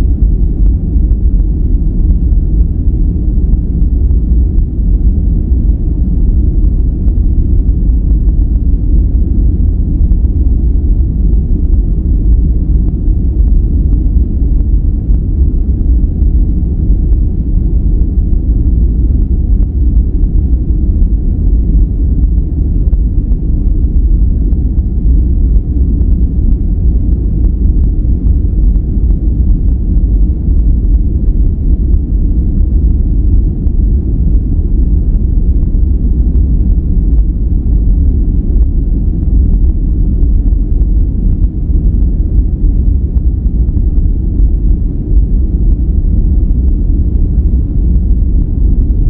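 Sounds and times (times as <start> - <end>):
deep rumbling noise: 0.0 - 49.0.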